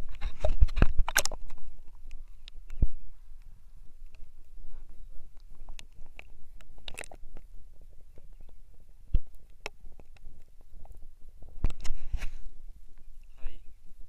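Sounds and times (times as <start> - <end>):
muffled river water gurgling: 0.0 - 14.0.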